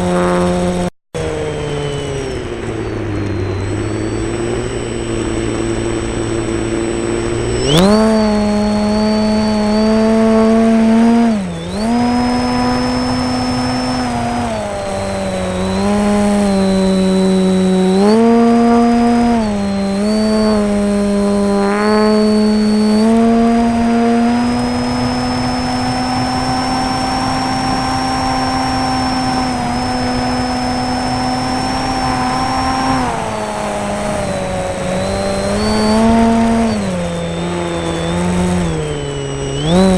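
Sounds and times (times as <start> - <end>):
model airplane motor whining: 0.0 - 39.9.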